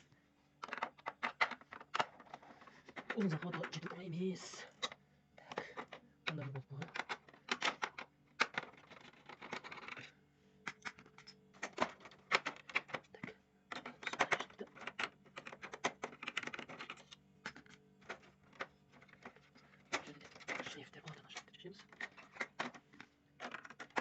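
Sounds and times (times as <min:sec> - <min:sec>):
screwdriver and printer parts clattering: 0:00.6 - 0:24.0.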